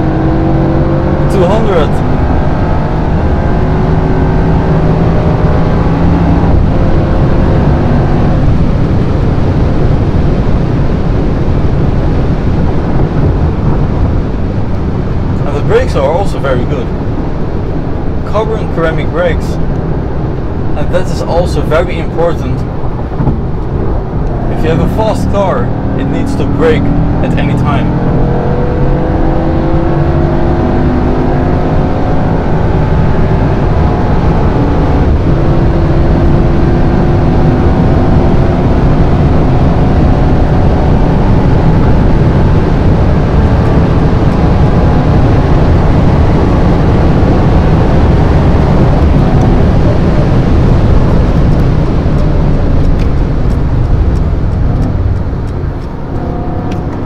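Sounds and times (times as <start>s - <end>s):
car engine accelerating hard: 0.0s - 57.0s
road and wind noise: 0.0s - 57.0s.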